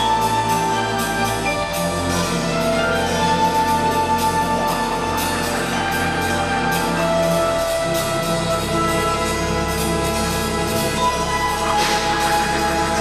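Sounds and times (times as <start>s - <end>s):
orchestral music: 0.0s - 13.0s.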